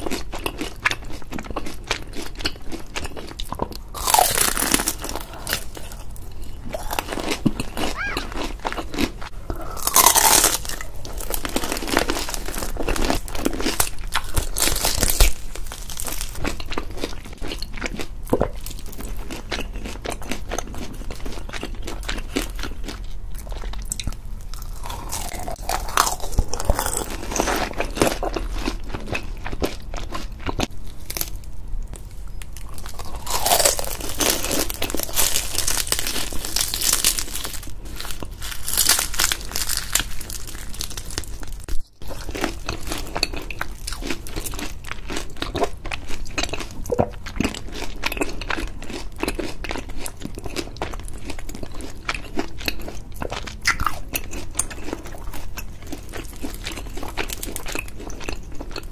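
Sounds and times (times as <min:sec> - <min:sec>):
crunching of crispy food: 0:00.0 - 0:58.9.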